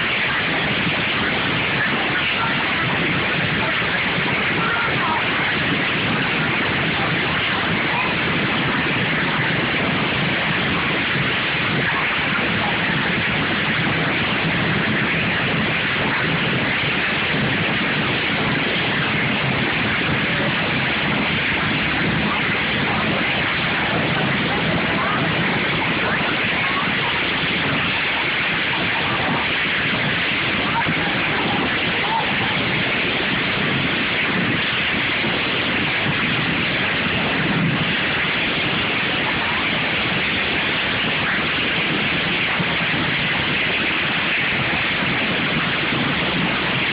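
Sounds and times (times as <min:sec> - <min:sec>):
crowd voices: 0:00.0 - 0:46.9.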